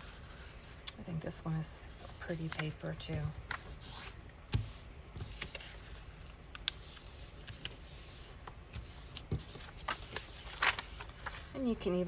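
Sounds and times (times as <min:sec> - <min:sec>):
paper rustling: 0:01.9 - 0:12.0.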